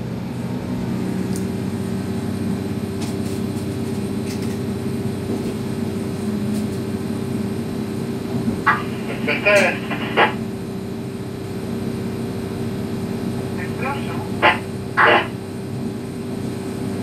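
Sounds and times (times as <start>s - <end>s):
train cab drone: 0.0s - 17.0s.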